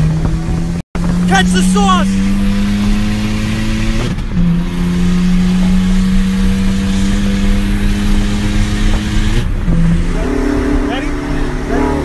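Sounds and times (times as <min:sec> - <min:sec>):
car engine droning: 0:00.0 - 0:12.0
road and wind noise: 0:00.0 - 0:12.0.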